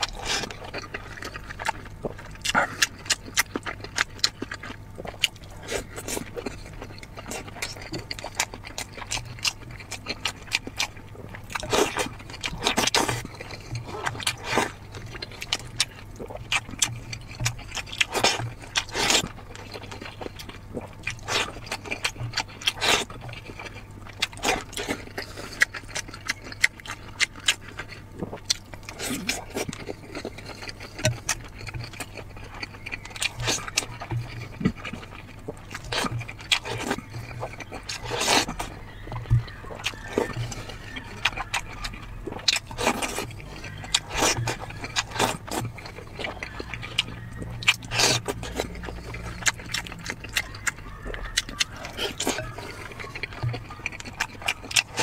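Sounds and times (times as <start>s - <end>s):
chewing and smacking: 0.0s - 55.0s
low steady hum: 0.0s - 55.0s.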